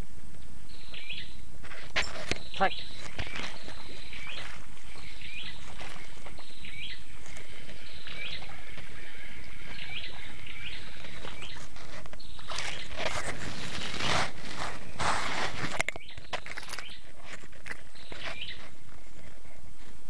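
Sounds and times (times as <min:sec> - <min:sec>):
steady background hiss: 0:00.0 - 0:20.0
bird calling: 0:00.7 - 0:19.7.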